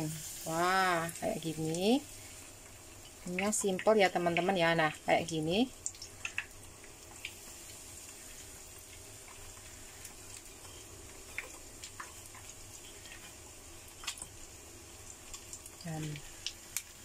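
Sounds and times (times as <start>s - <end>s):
chicken wings sizzling in oil: 0.0s - 17.0s.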